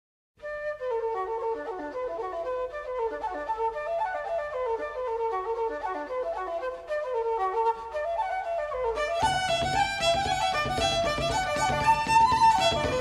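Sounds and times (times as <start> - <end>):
flute playing quick melody: 0.4 - 13.0.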